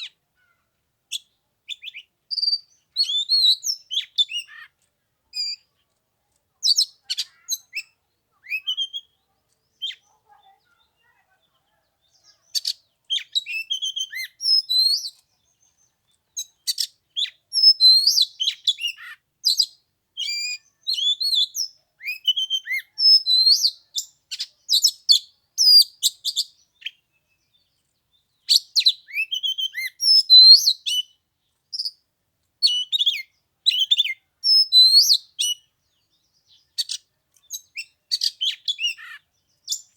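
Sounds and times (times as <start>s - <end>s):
bird singing: 0.0s - 5.9s, 6.6s - 32.0s, 32.6s - 39.9s.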